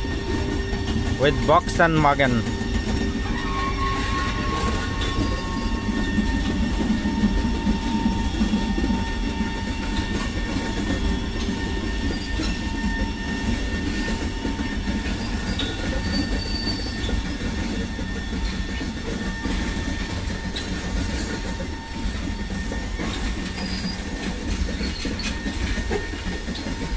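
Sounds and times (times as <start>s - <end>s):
freight train wagons rumbling: 0.0s - 26.9s
wheels squealing: 2.5s - 26.9s.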